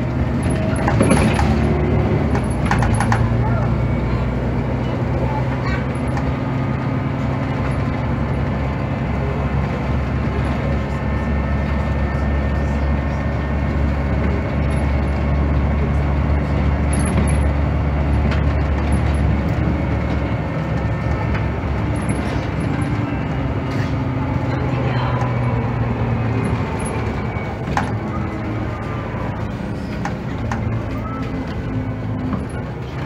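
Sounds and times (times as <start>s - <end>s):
bus engine droning: 0.0s - 33.0s
road and body rumble: 0.0s - 33.0s.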